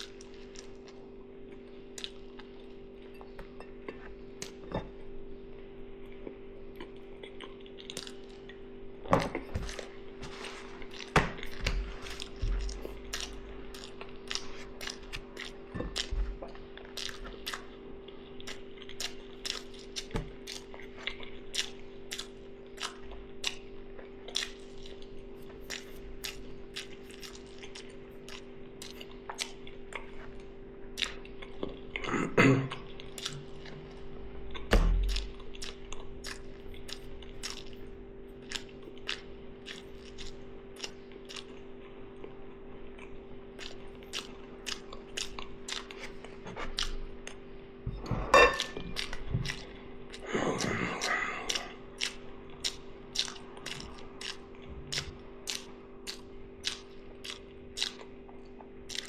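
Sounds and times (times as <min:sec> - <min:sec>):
low hum: 0:00.0 - 0:58.8
person chewing food: 0:00.0 - 0:59.0.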